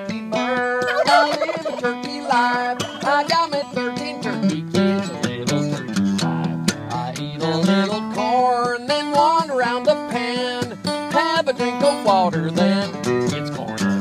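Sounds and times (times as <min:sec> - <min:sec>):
acoustic guitar country tune: 0:00.0 - 0:14.0.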